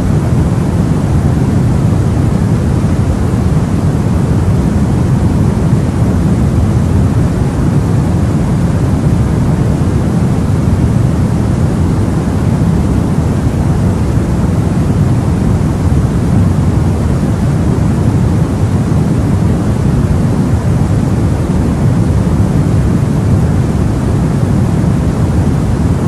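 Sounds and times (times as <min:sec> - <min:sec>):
white noise: 0:00.0 - 0:26.0.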